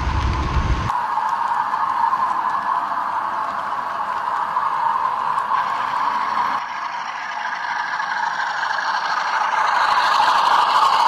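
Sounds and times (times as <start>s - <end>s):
model train running on track: 0.0s - 11.0s
wheels clattering on rails: 0.0s - 11.0s.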